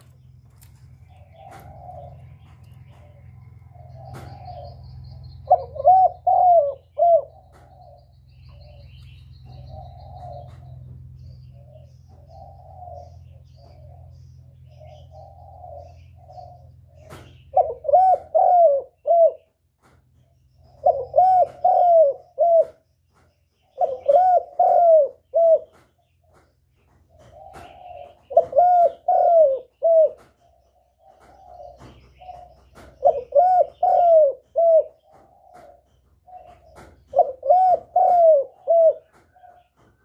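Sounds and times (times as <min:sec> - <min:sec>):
dove cooing: 0:00.0 - 0:19.6, 0:20.2 - 0:40.0.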